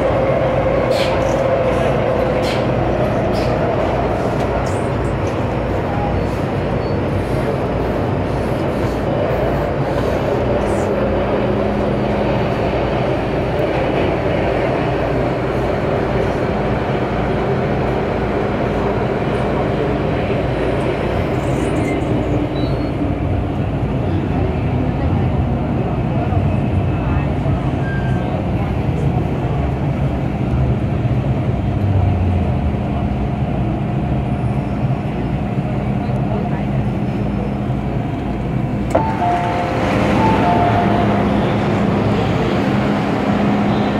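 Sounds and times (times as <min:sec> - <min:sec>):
metro train rumbling in tunnel: 0:00.0 - 0:43.9.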